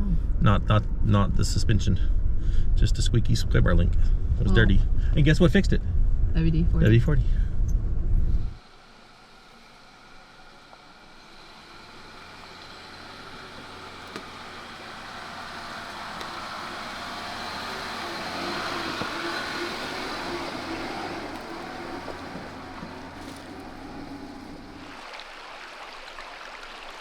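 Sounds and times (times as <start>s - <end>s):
vehicle engine passing: 0.5s - 25.0s.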